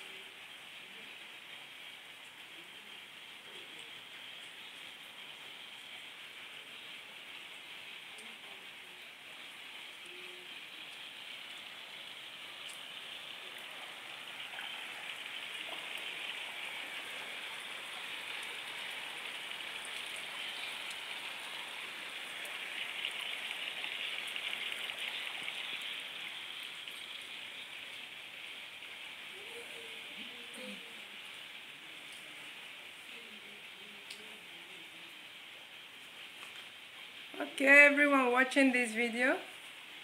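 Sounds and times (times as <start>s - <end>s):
rain hiss: 0.0s - 40.0s.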